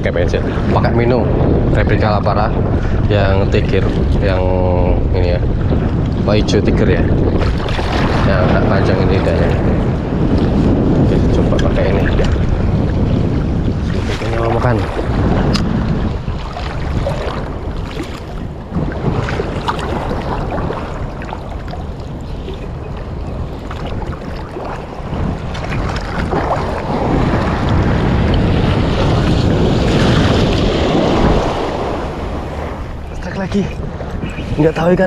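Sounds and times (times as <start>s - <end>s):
waves breaking on shore: 0.0s - 35.0s
wind buffeting microphone: 0.0s - 35.0s.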